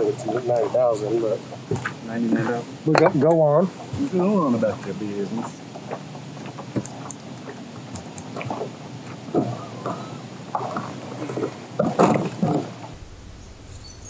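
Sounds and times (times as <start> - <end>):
knocks and splashes: 0.0 - 13.0
water slapping against boat hull: 0.0 - 13.0.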